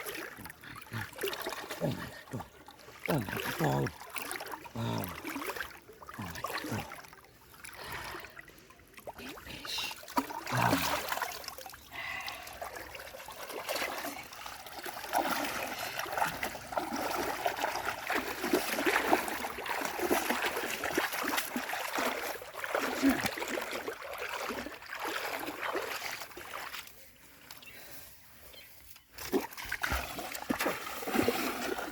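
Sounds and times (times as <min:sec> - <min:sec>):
water splashing and trickling: 0:00.0 - 0:31.9.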